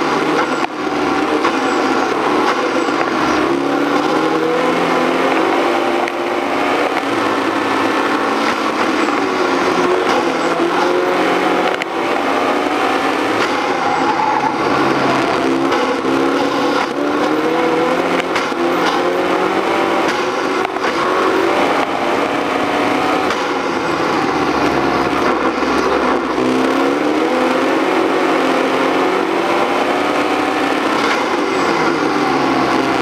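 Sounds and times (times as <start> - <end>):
car engine accelerating: 0.0 - 33.0
road and tyre noise: 0.0 - 33.0.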